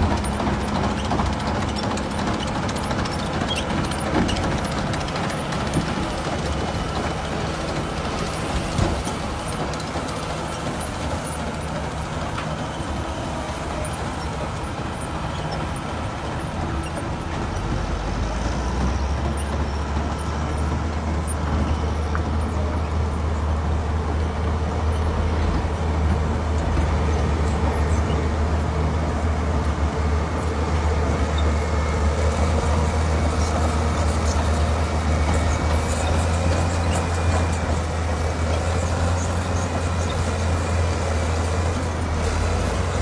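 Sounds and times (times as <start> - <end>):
heavy diesel engine droning: 0.0 - 43.0.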